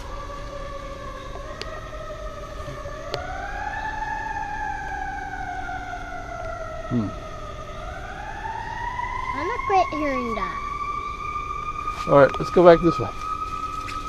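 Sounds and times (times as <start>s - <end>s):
wailing siren: 0.0s - 14.0s.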